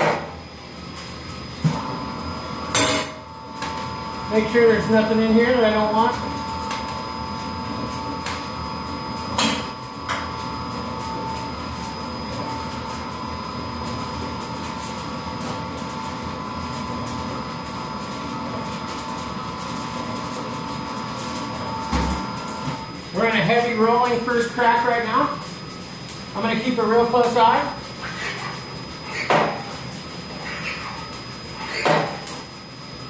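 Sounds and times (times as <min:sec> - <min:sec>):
coffee roaster humming: 0:00.0 - 0:33.0.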